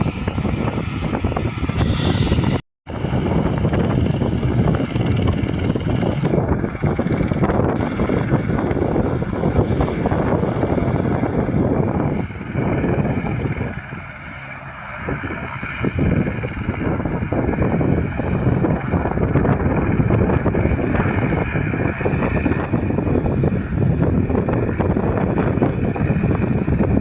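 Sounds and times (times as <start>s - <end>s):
helicopter running: 0.0s - 27.0s
wind buffeting microphone: 0.0s - 27.0s.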